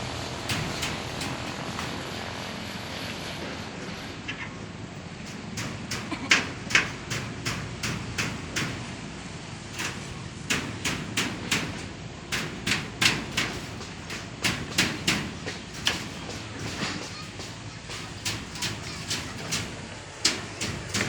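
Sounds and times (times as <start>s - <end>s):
hammer blows: 0.4s - 2.4s, 5.3s - 9.1s, 9.7s - 21.0s.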